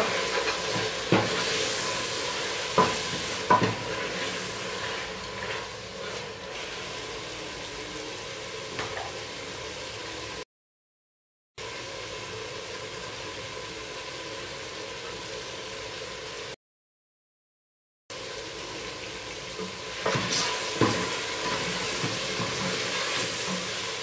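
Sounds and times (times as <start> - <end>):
curry sizzling in a pot: 0.0 - 10.4, 11.6 - 16.6, 18.1 - 24.0.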